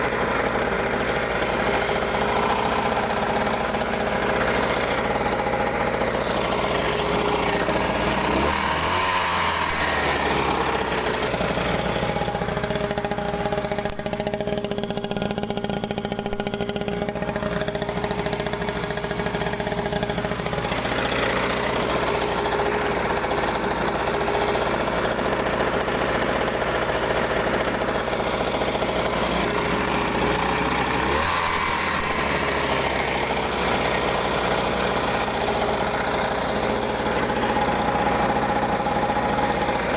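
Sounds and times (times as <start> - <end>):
small engine idling: 0.0 - 39.9.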